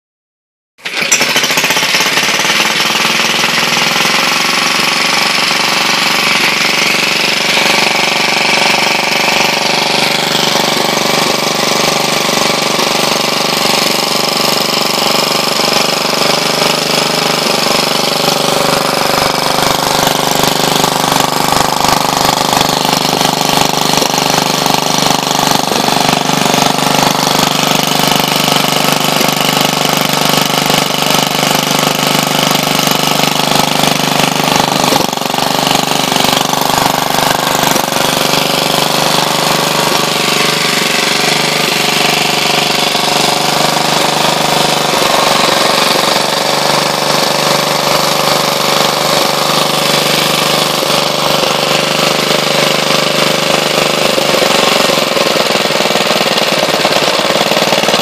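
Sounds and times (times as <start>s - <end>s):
single-cylinder engine running: 0.8s - 58.0s.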